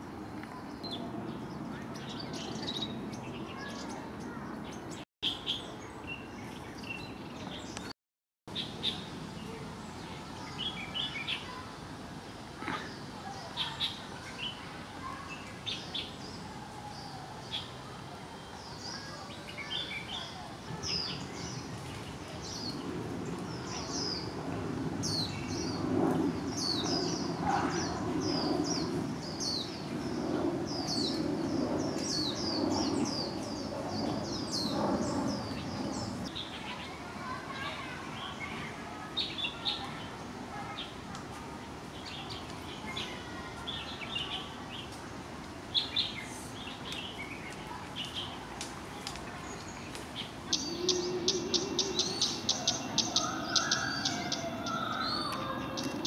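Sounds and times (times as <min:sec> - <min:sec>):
songbirds chirping: 0:00.3 - 0:07.9, 0:08.5 - 0:56.0.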